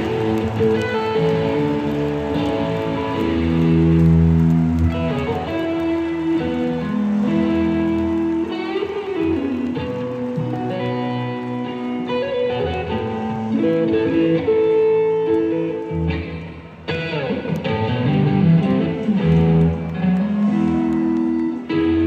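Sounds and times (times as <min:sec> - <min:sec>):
electric guitar melody: 0:00.0 - 0:22.0
live rock band playing: 0:00.0 - 0:22.0.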